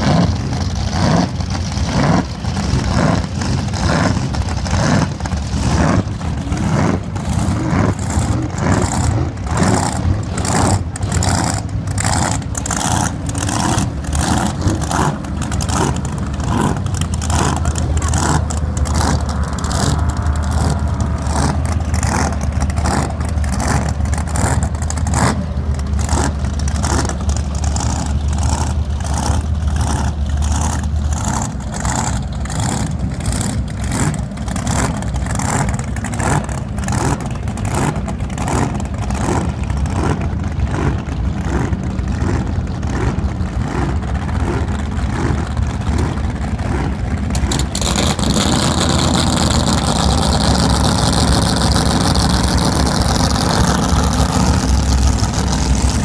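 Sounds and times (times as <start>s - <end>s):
boat engines idling lumpily: 0.0s - 56.0s
deep steady engine note: 0.0s - 56.0s.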